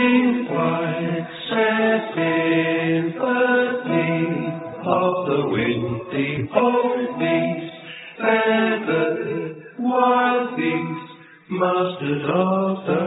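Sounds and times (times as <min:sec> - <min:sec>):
music with chanted vocals: 0:00.0 - 0:13.0.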